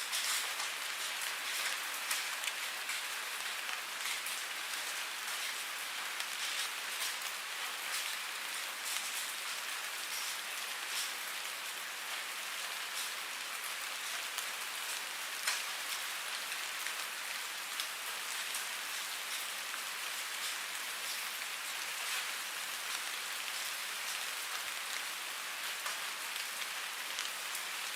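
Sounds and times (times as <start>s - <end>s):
raindrops ticking on a surface: 0.0s - 27.9s
steady rain hiss: 0.0s - 27.9s.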